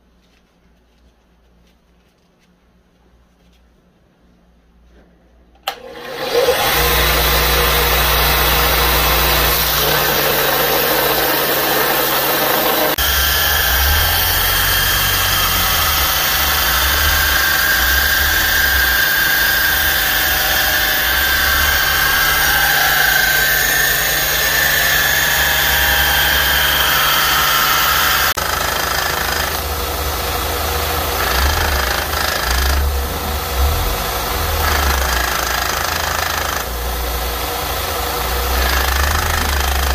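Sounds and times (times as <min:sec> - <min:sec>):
belt grinder motor hum: 0:05.7 - 0:39.9
metal grinding on abrasive belt: 0:06.2 - 0:39.9.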